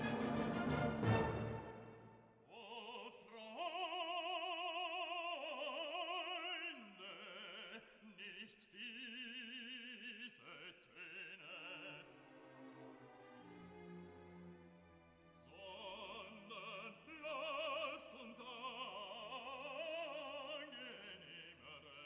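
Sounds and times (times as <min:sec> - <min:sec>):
operatic singing: 0:00.0 - 0:13.4, 0:15.4 - 0:22.0.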